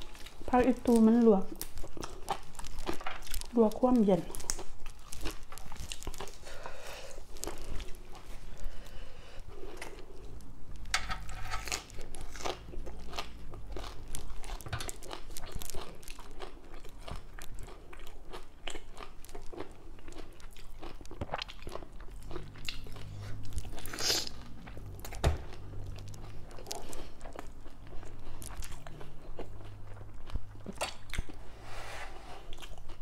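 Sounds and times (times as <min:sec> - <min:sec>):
person chewing and crunching: 0:00.0 - 0:31.6, 0:32.4 - 0:33.0.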